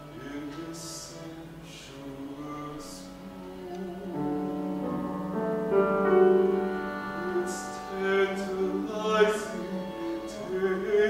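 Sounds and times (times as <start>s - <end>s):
clarinet: 0.0s - 11.0s
piano: 0.0s - 11.0s
violin: 0.0s - 11.0s.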